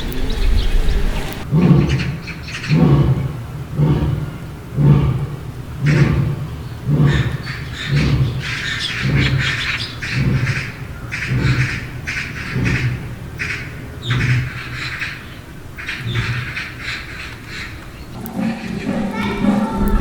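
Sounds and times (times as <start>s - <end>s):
animal harsh raspy calls: 0.0s - 20.0s.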